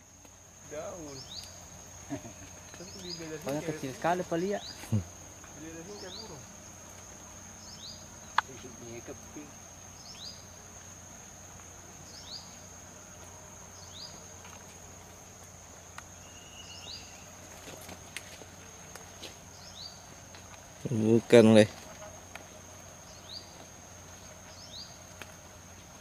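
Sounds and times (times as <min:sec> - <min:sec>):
insects whining high-pitched: 0:00.0 - 0:26.0.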